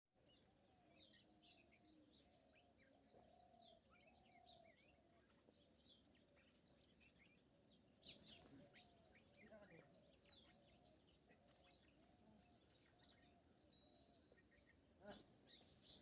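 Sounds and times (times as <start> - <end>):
birds chirping: 0.2 - 16.0.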